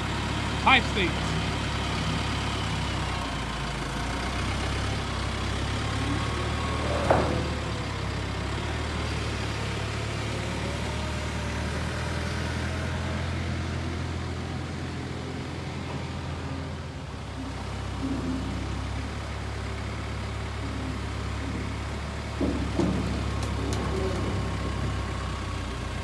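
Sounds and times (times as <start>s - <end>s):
heavy machine engine running: 0.0s - 26.0s.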